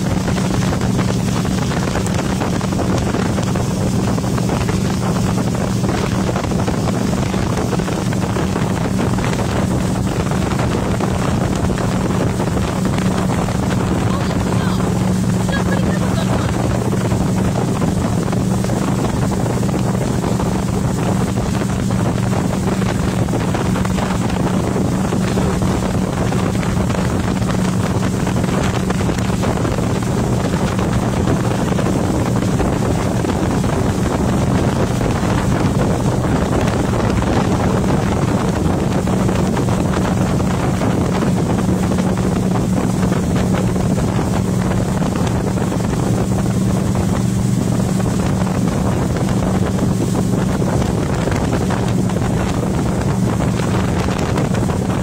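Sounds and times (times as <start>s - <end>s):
boat engine droning: 0.0s - 55.0s
rush of boat wake: 0.0s - 55.0s
wind buffeting microphone: 0.0s - 55.0s.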